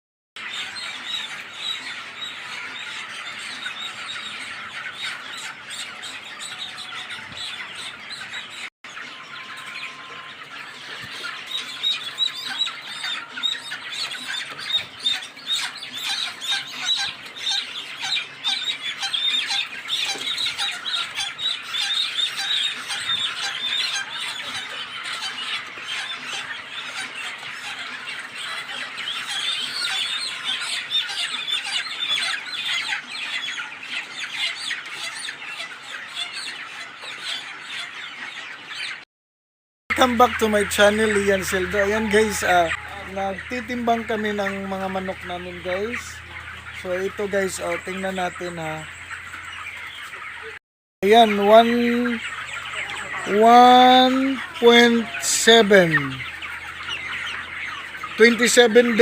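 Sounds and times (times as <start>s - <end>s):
chickens squawking and cheeping: 0.4s - 39.1s, 39.9s - 59.0s.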